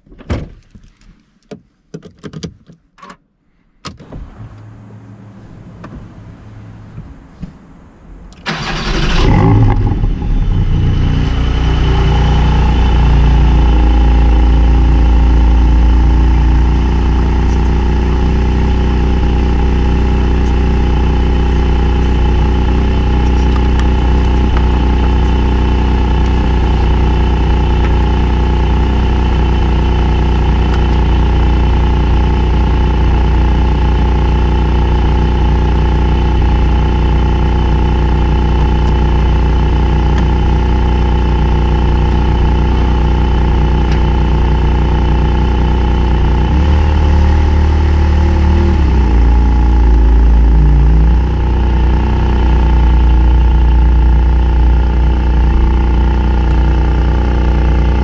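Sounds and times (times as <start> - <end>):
car engine idling: 4.0 - 58.0
car engine starting and revving: 4.0 - 58.0.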